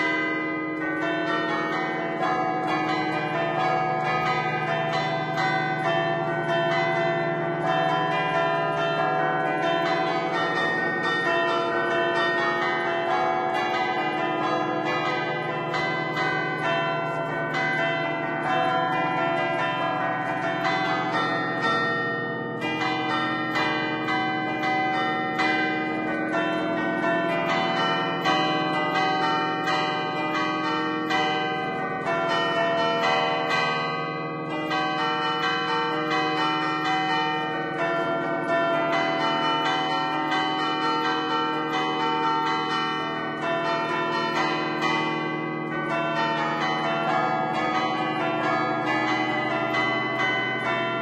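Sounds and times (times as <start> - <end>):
church bells ringing a festive tune: 0.0 - 51.0.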